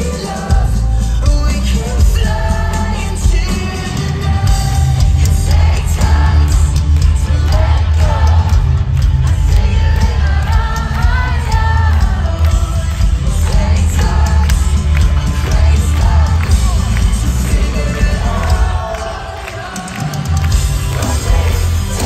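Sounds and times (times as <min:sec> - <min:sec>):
loud rock music: 0:00.0 - 0:22.0
person singing: 0:00.0 - 0:22.0.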